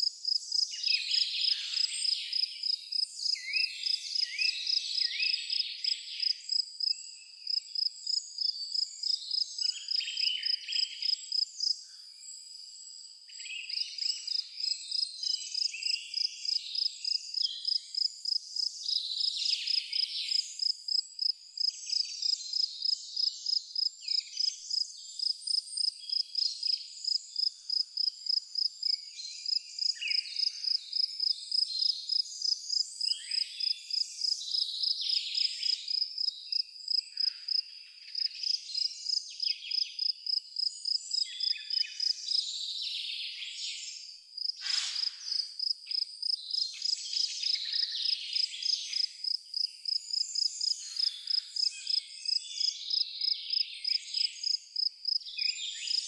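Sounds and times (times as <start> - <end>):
cricket chirping: 0.0 - 56.0
birds singing and calling: 0.7 - 12.4, 21.6 - 56.0.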